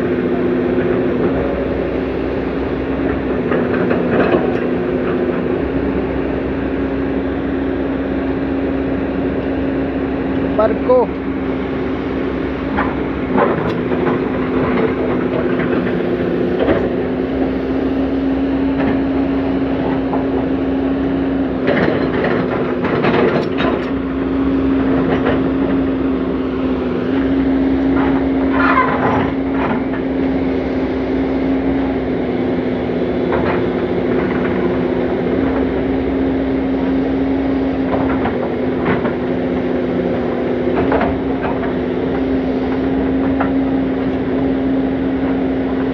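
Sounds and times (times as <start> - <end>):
excavator diesel engine humming: 0.0 - 45.9.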